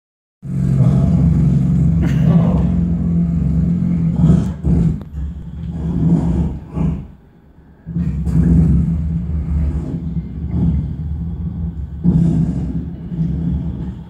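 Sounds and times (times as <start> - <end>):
amplified vocal drone: 0.5 - 14.0.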